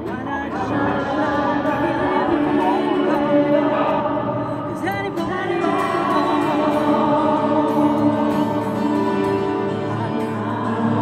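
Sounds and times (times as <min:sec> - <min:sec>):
acoustic guitar: 0:00.0 - 0:11.0
woman singing with echo: 0:00.0 - 0:11.0.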